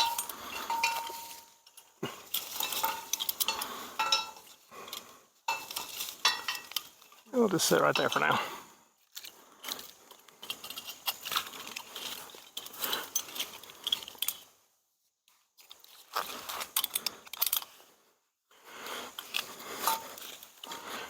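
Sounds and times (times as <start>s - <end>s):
metal climbing gear clinking: 0.0s - 14.6s, 15.6s - 18.0s, 19.0s - 21.0s.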